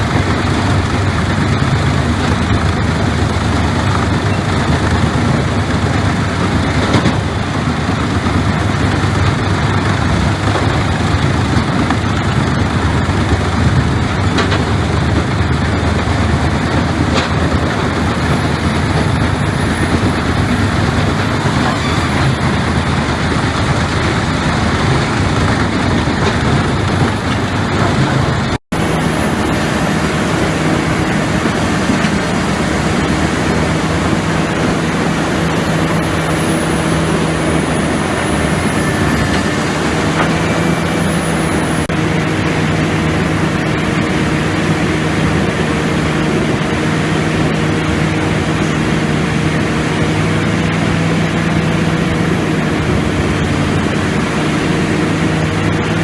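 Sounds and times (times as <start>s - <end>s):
heavy machinery running: 0.0s - 56.0s.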